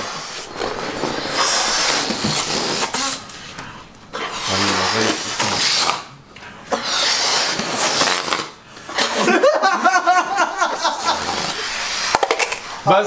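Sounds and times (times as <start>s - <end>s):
air hissing out of balloons: 0.0s - 9.3s, 10.9s - 13.0s.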